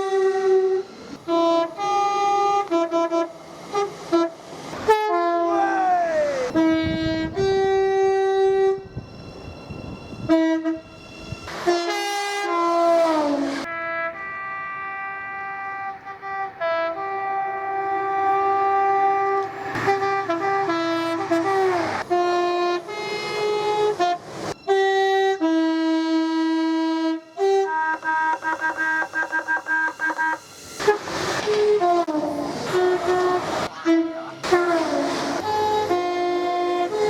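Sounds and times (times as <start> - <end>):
train air horns playing a tune: 0.0 - 9.0, 10.2 - 10.9, 11.5 - 37.0.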